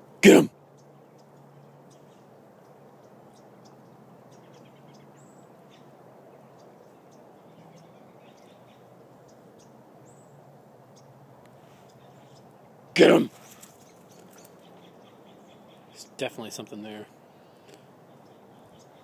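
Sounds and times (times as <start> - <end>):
low outdoor hiss: 0.0 - 19.0.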